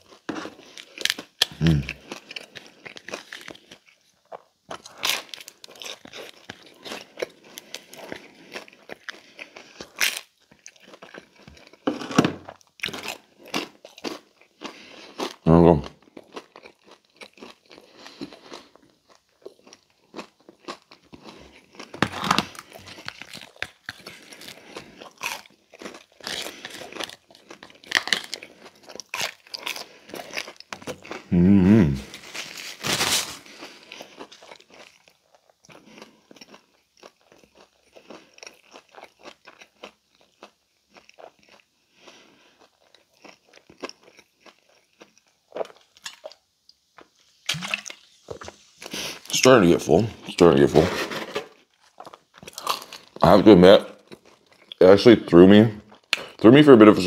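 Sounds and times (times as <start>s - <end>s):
chewing: 0.0s - 31.4s, 32.0s - 49.5s, 51.5s - 53.2s, 54.0s - 54.8s, 55.8s - 56.4s
crunchy pizza bites: 0.0s - 50.7s, 51.5s - 57.0s.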